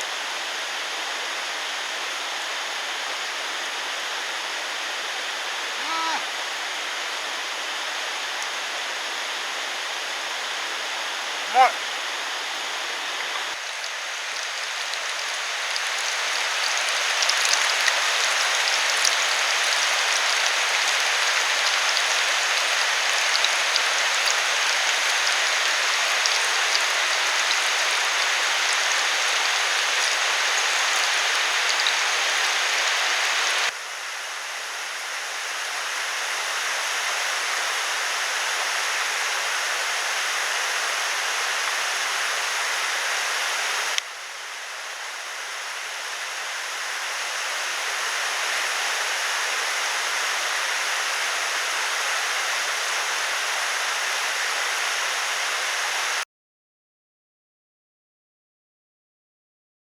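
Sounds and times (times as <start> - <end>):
rushing water: 4.7 - 33.8, 35.5 - 56.2.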